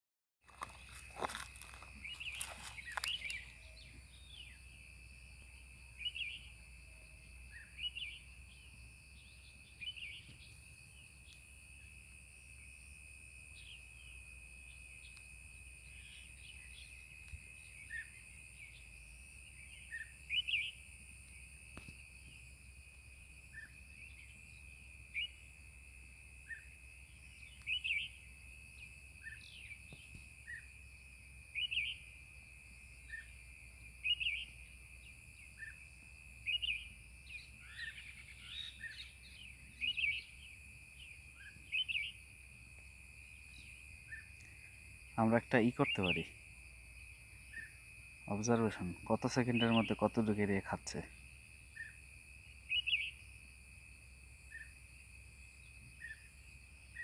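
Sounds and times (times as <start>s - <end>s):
bird chirps: 0.5s - 12.0s, 13.5s - 22.6s, 23.2s - 25.6s, 26.4s - 30.8s, 31.5s - 32.1s, 33.0s - 42.3s, 43.3s - 46.4s, 47.1s - 53.3s, 54.5s - 54.8s, 55.5s - 57.0s
high-pitched insect drone: 0.5s - 57.0s.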